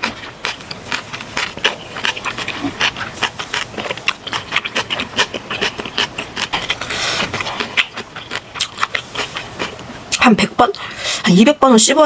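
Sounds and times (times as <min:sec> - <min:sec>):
wet chewing: 0:00.0 - 0:11.3.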